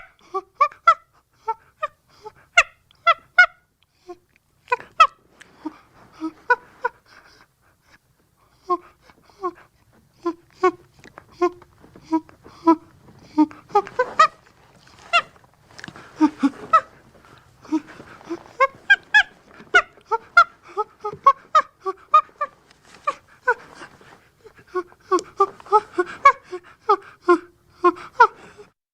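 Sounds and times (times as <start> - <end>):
chimpanzee hooting and panting: 0.0 - 28.8.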